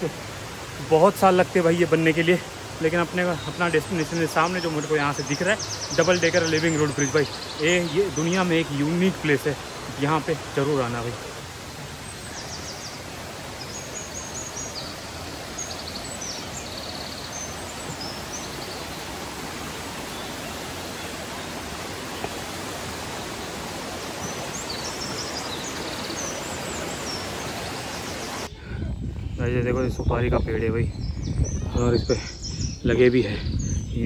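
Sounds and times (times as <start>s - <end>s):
mountain stream rushing: 0.0s - 28.5s.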